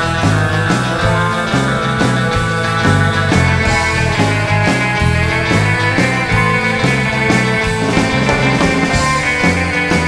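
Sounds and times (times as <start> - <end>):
surf-rock instrumental music: 0.0 - 10.0.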